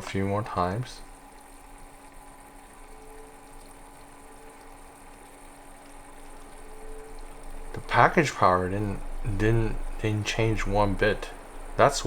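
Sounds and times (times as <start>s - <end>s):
computer fans hissing: 0.0s - 12.0s
low hum: 0.0s - 12.0s.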